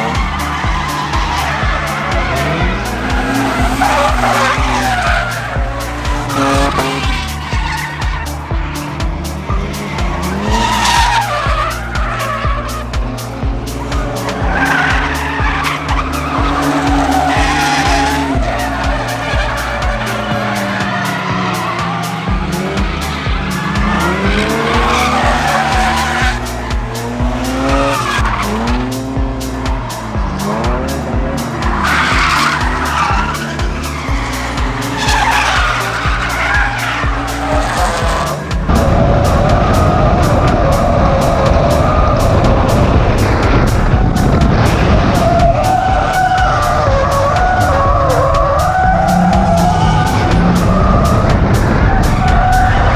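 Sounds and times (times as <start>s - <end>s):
car engine at high revs: 0.0s - 52.9s
music with steady beat: 0.0s - 52.9s
tyres squealing: 0.0s - 52.9s.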